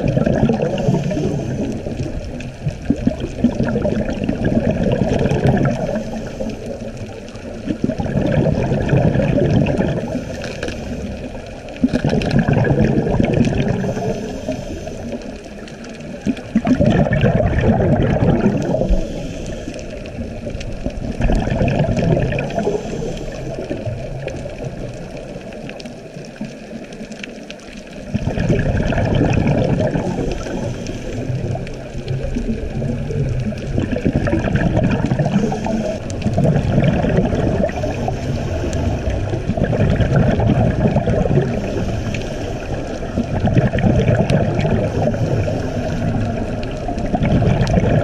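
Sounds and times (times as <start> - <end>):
bubbles rushing underwater: 0.0 - 48.0
underwater hiss: 0.0 - 48.0.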